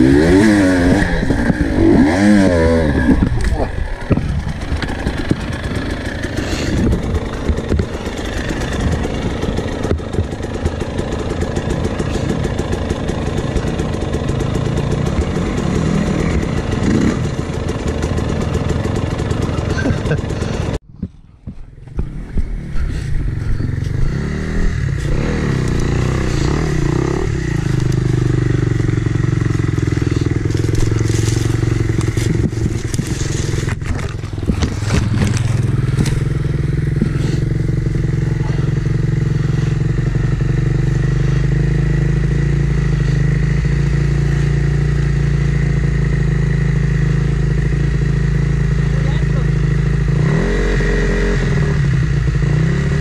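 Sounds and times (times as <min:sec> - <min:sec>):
dirt bike engine revving and idling: 0:00.0 - 0:20.8, 0:21.9 - 0:53.0.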